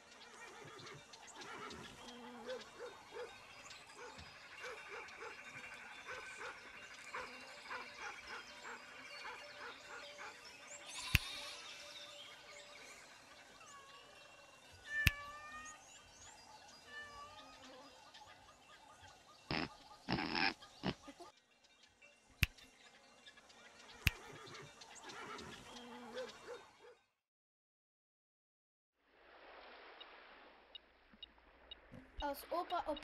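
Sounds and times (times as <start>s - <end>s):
animal calls and chirps: 0.0s - 27.0s.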